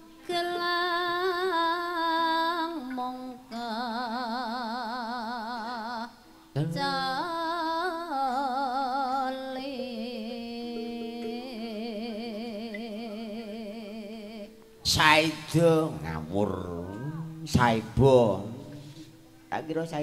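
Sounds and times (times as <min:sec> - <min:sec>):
woman singing with vibrato: 0:00.0 - 0:19.2.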